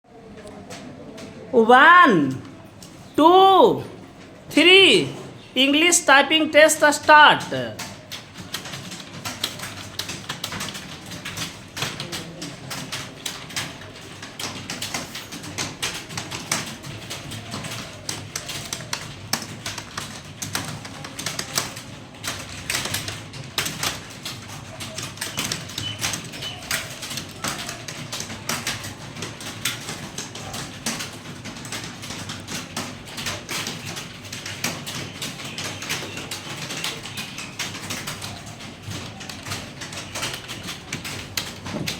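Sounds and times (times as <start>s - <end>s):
keyboard typing: 0.2s - 41.9s.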